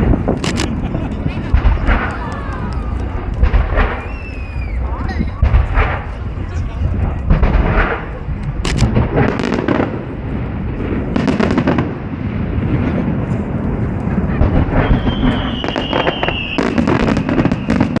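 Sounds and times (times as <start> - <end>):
low rumble: 0.0 - 15.6
crackling firework reports: 0.0 - 18.0
fireworks bursting: 0.0 - 18.0.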